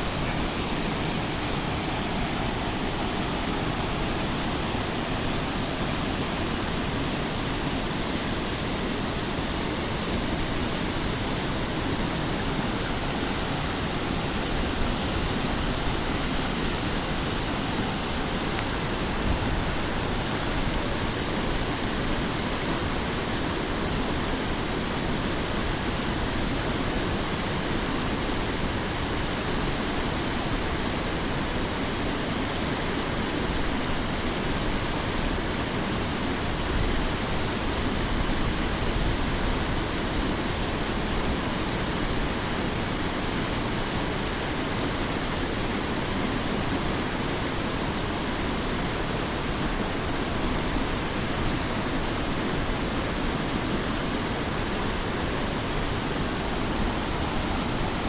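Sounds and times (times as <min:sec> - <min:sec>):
waterfall splashing: 0:00.0 - 0:58.0.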